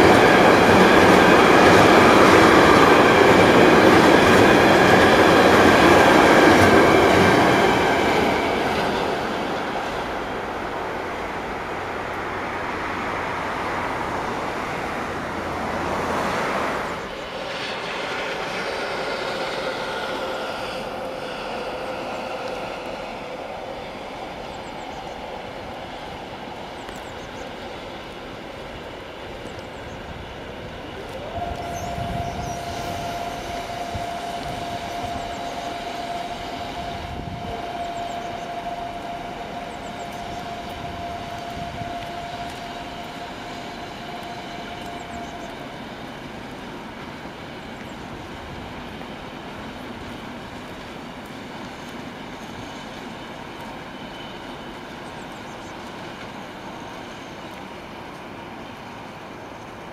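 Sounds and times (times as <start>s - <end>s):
electric locomotive whine: 0.0s - 59.9s
train wheels rumbling on rails: 0.0s - 59.9s.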